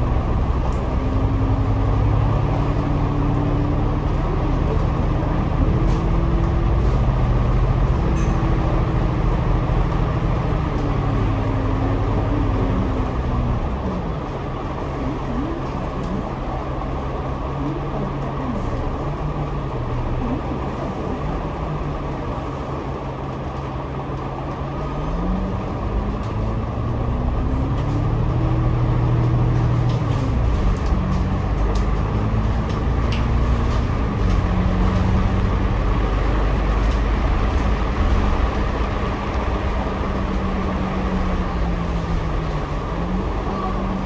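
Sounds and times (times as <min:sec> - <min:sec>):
bus engine: 0:00.0 - 0:44.0
road rumble: 0:00.0 - 0:44.0.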